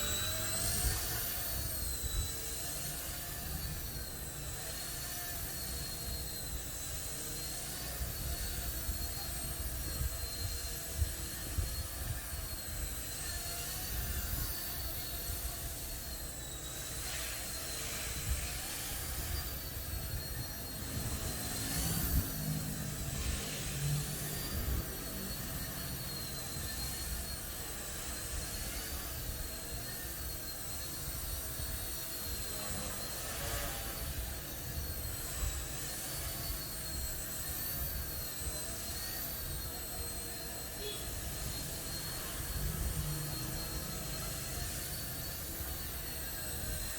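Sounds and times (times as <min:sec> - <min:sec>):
electric helicopter motors whining: 0:00.0 - 0:46.9.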